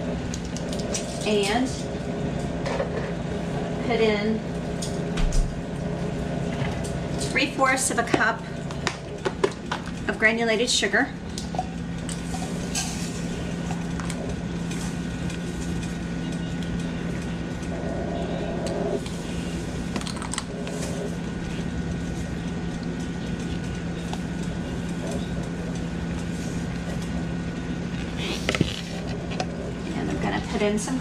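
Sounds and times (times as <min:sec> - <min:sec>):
machine hum with high whine: 0:00.0 - 0:31.0.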